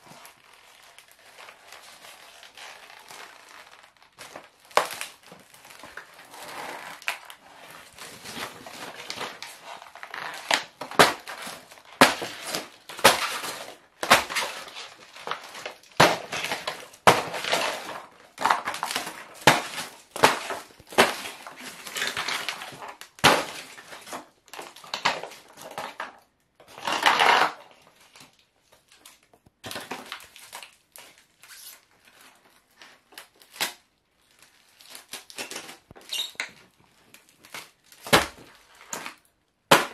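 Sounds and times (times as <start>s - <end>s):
foam and plastic crunching: 0.0s - 39.9s.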